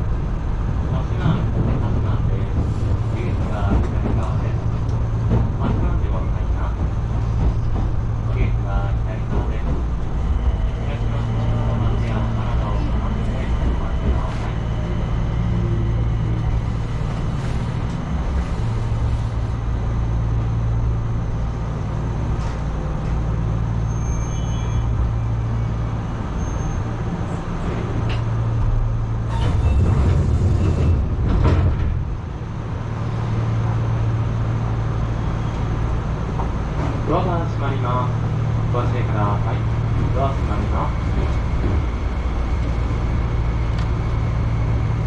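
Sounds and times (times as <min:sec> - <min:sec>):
electric train running hum: 0:00.0 - 0:45.0.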